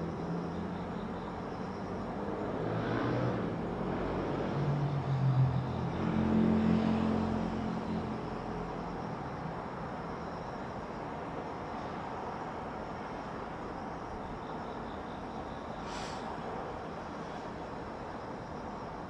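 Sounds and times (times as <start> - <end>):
distant traffic noise: 0.0 - 19.0.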